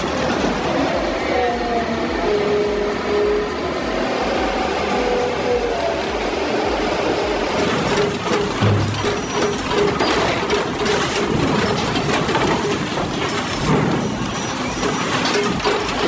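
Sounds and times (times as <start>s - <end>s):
heavy machinery clattering: 0.0s - 16.0s.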